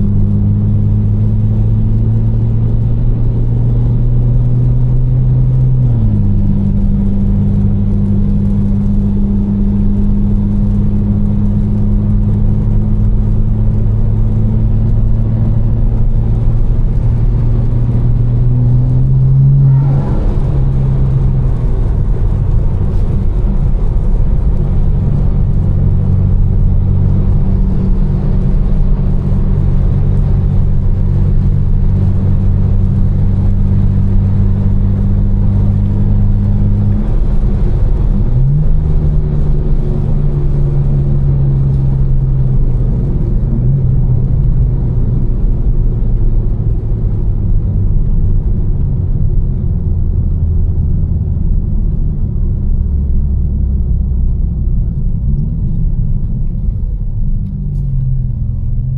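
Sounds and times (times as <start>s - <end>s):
car engine droning: 0.0s - 58.9s.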